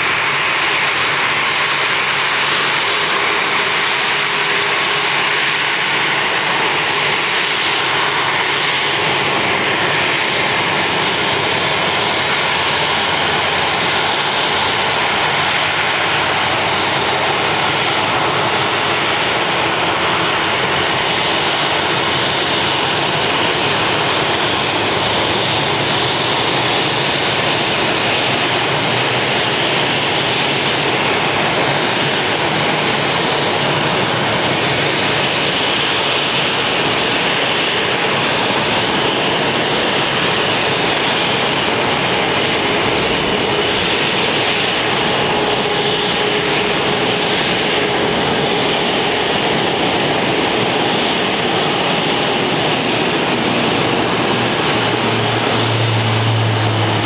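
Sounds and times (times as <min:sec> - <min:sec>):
jet engines idling: 0:00.0 - 0:57.0.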